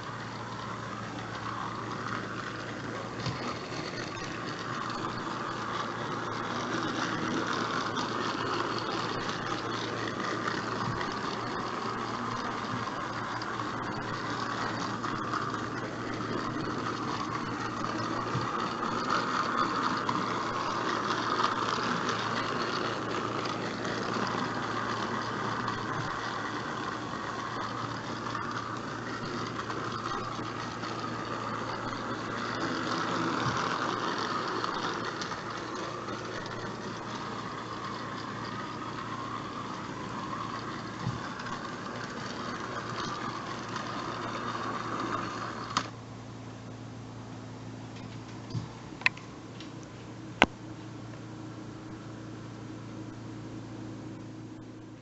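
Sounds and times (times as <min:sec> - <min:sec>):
gear rattle: 0:00.0 - 0:46.0
toy train motor whirr: 0:00.0 - 0:46.0.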